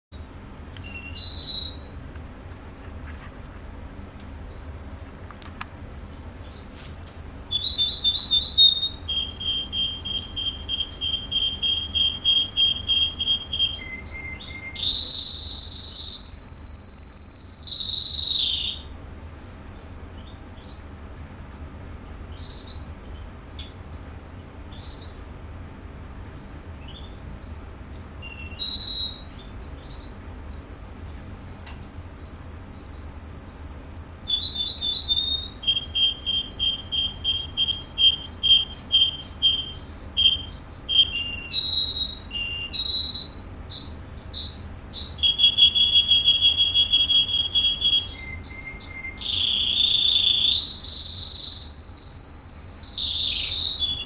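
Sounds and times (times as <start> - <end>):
canary singing trills: 0.1 - 19.2, 19.8 - 21.0, 22.3 - 23.4, 24.7 - 54.0.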